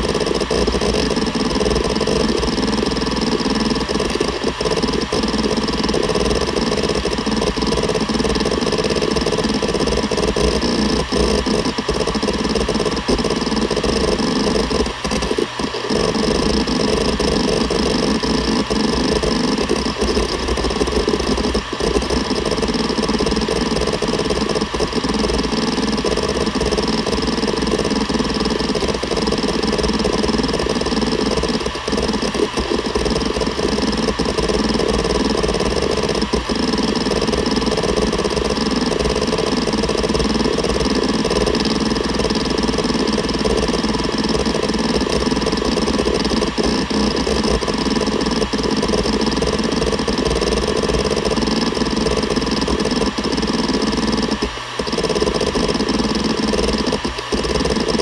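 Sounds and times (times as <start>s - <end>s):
hard drive head-seek chatter: 0.0s - 58.0s
hard drive whine: 0.0s - 58.0s.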